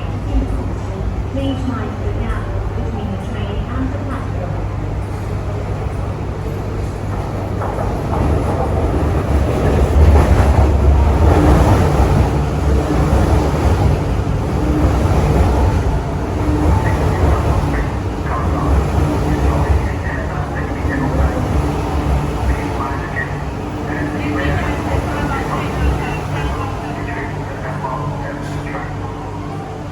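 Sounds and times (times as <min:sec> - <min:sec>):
metro train arriving: 0:00.0 - 0:29.9.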